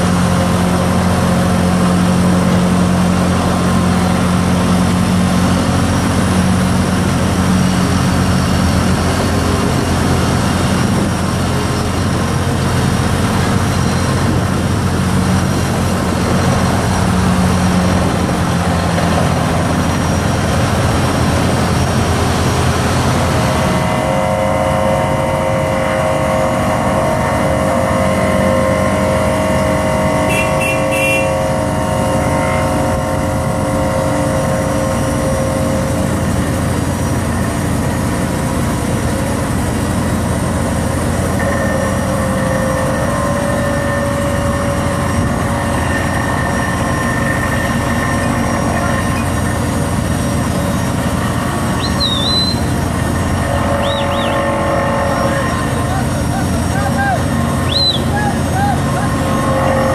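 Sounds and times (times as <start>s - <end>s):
vibratory pile hammer drone: 0.0s - 59.9s.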